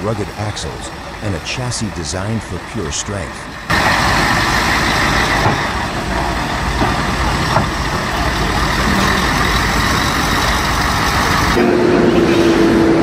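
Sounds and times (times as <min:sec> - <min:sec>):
diesel truck engines throbbing: 0:00.0 - 0:13.0.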